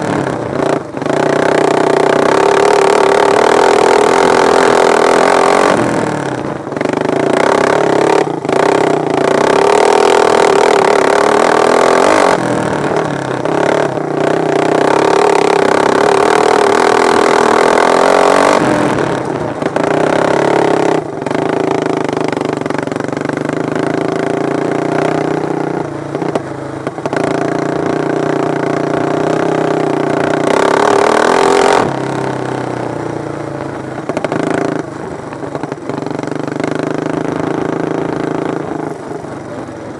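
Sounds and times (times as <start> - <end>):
lawn mower engines revving: 0.0 - 39.9.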